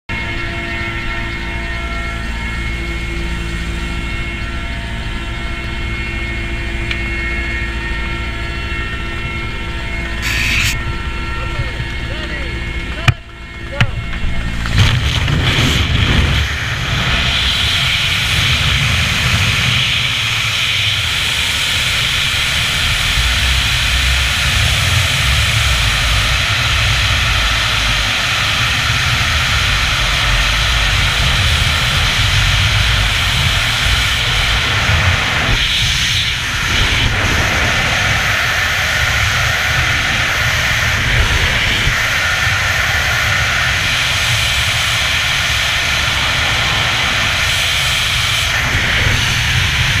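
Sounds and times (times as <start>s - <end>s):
wind roaring over microphone: 0.1s - 50.0s.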